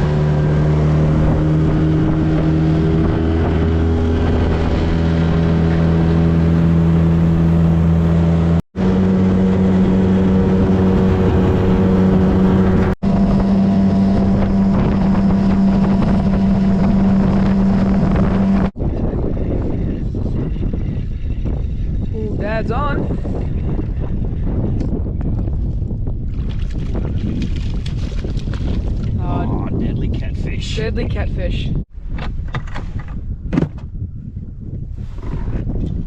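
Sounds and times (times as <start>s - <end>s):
outboard motor running: 0.0s - 29.5s.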